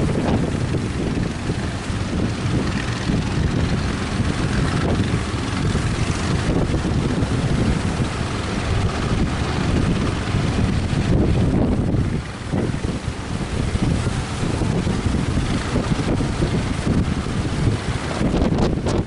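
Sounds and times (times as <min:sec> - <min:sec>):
rough surf rushing: 0:00.0 - 0:19.0
strong wind buffeting microphone: 0:00.0 - 0:19.0.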